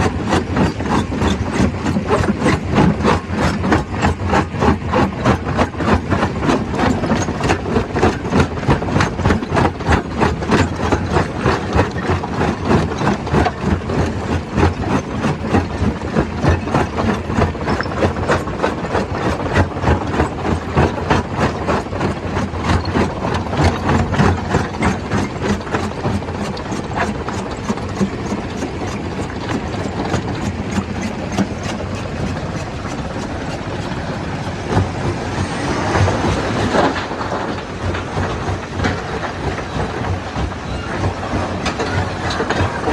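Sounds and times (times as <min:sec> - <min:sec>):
stone crusher pulsing din: 0:00.0 - 0:38.3.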